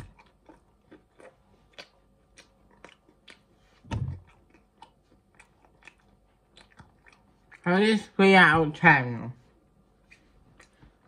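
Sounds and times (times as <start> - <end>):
person chewing food: 0.0 - 7.8, 9.5 - 11.0.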